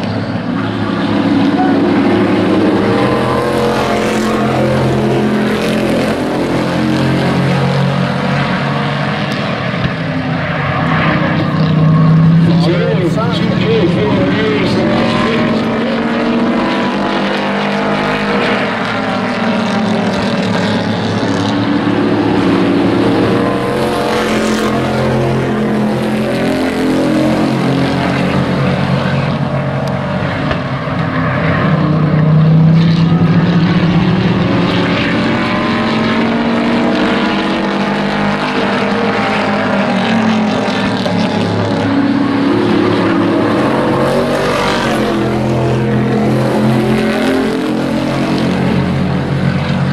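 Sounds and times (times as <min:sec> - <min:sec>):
race truck engines: 0:00.0 - 0:49.9.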